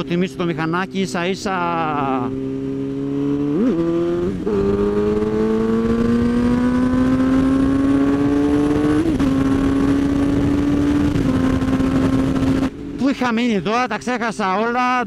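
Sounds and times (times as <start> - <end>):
motorcycle engine revving: 0.0 - 13.2.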